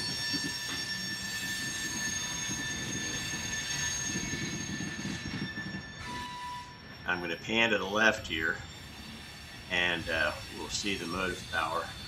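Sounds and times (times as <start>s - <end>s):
freight cars rumbling on rails: 0.0s - 12.0s
train wheels squealing: 0.0s - 12.0s.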